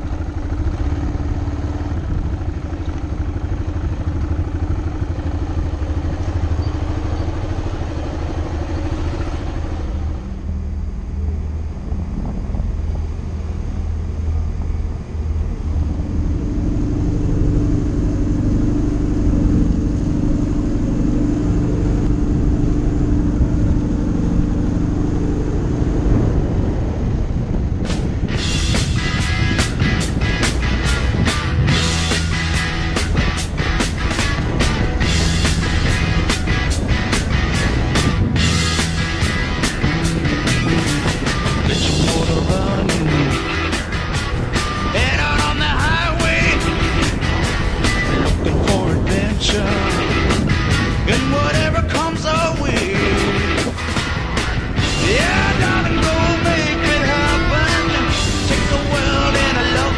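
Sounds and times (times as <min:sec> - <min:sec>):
low steady engine drone: 0:00.0 - 0:59.9
motorbike engine running: 0:00.0 - 0:59.9.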